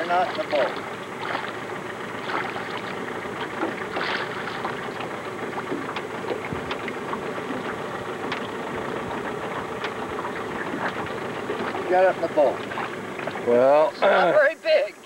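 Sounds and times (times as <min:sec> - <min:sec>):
small splashes: 0:00.0 - 0:13.6
water lapping against boat: 0:00.0 - 0:14.8.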